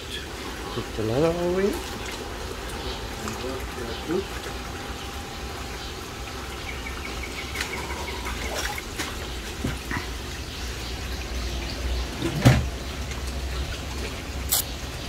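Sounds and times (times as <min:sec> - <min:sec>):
pool water sloshing and dripping: 0:00.0 - 0:15.0.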